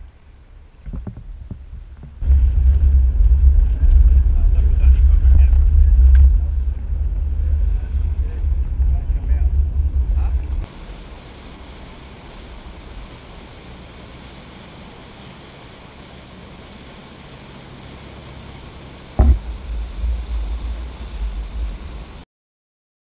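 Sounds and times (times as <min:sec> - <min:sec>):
rushing wash of water: 0:00.0 - 0:22.2
loud low rumbling and buffeting: 0:00.9 - 0:22.2.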